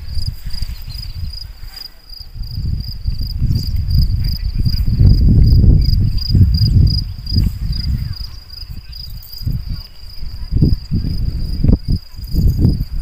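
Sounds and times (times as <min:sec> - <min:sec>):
cricket chirping: 0:00.0 - 0:13.0
low rumble on microphone: 0:00.0 - 0:13.0.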